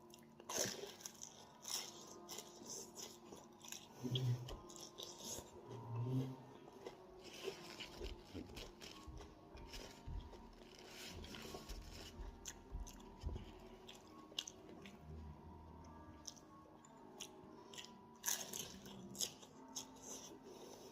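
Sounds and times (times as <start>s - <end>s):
person chewing crunchy food: 0.0s - 15.0s, 16.1s - 20.9s.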